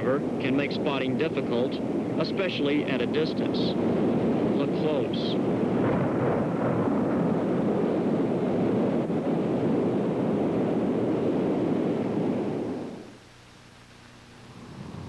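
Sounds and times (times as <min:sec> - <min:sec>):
strong wind blowing: 0:00.0 - 0:13.2, 0:14.5 - 0:15.0.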